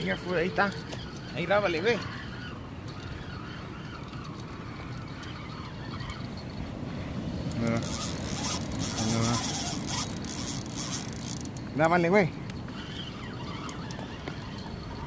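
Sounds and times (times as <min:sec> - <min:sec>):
outdoor background noise: 0:00.0 - 0:15.0
voices calling out: 0:00.0 - 0:15.0.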